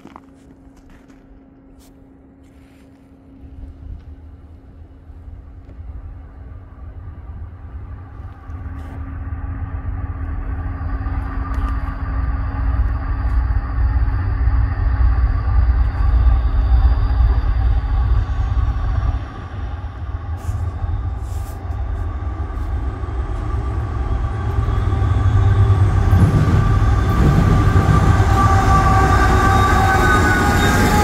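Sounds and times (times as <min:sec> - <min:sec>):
faint high whine: 0:00.0 - 0:31.0
steady hum: 0:00.0 - 0:31.0
diesel locomotive rumble: 0:03.4 - 0:31.0.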